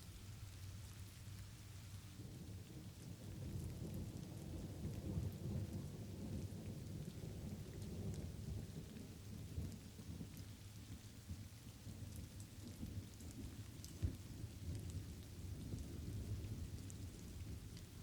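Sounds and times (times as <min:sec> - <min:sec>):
light rain falling: 0:00.0 - 0:18.0
rolling thunder rumble: 0:02.2 - 0:18.0.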